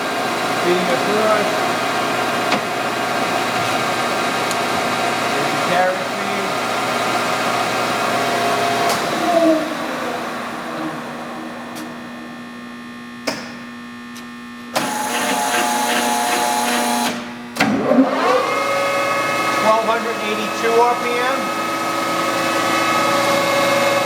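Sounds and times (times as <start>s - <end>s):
lathe gear whine: 0.0s - 13.2s, 14.8s - 24.0s.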